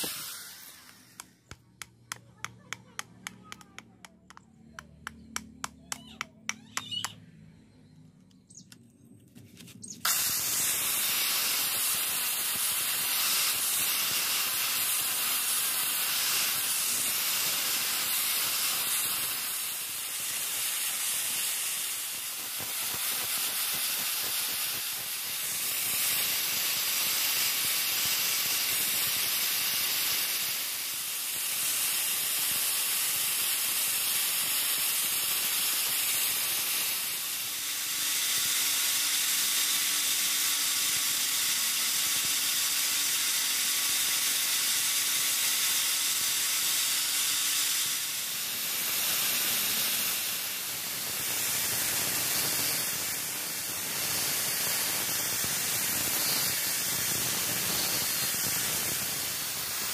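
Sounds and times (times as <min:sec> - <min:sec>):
angle grinder sanding metal: 0:00.0 - 0:04.4, 0:10.1 - 0:59.9.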